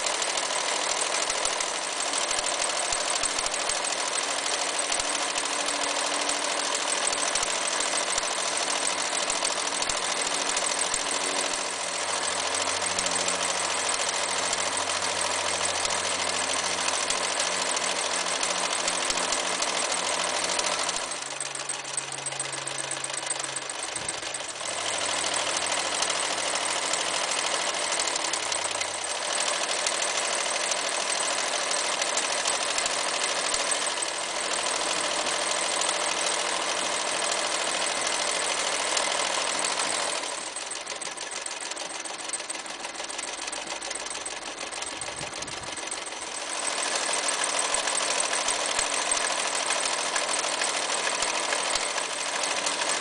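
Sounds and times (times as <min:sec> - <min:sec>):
sewing machine clattering: 0:00.0 - 0:53.0.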